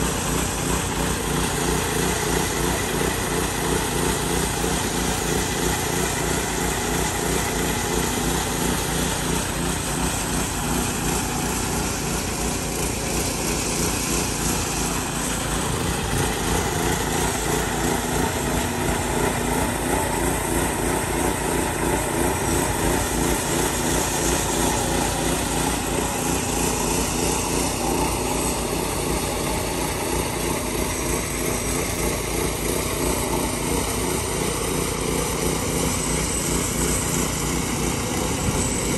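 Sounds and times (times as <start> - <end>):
power trowel engine running: 0.0 - 38.9.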